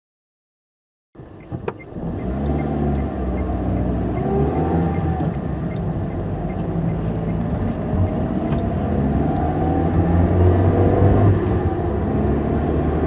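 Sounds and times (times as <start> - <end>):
car engine running: 1.2 - 13.0.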